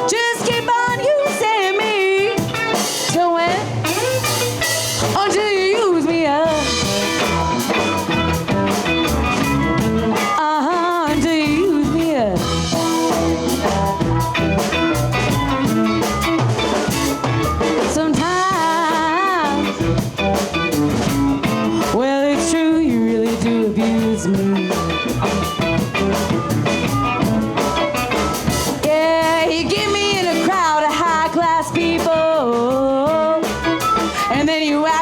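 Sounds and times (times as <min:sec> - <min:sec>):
lead guitar line bending pitch: 0:00.0 - 0:35.0
live blues band playing: 0:00.0 - 0:35.0.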